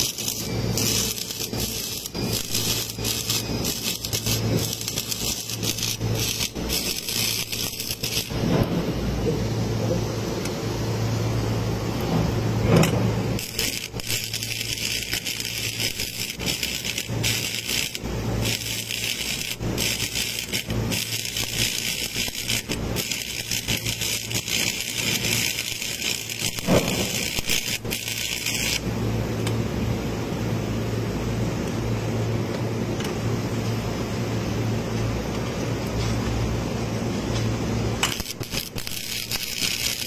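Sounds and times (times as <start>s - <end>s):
welding arc crackling and hissing: 0.0s - 10.7s, 11.4s - 30.1s, 33.4s - 40.0s.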